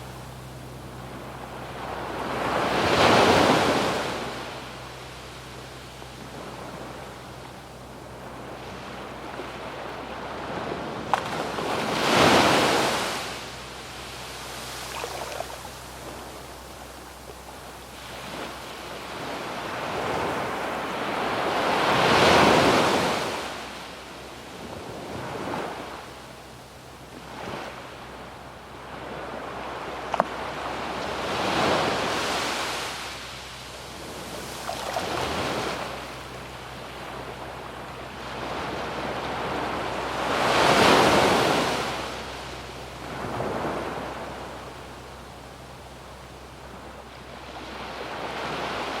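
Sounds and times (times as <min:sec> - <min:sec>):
ocean waves breaking on beach: 0:00.0 - 0:26.3, 0:27.1 - 0:49.0.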